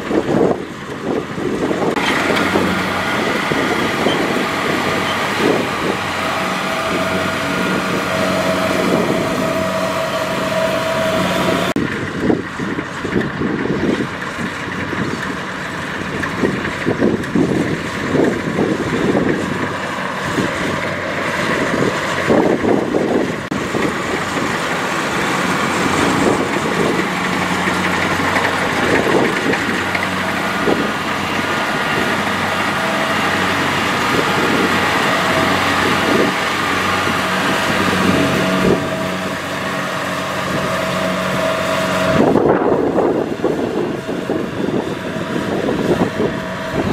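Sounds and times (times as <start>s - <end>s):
combine harvester humming: 0.0s - 46.9s.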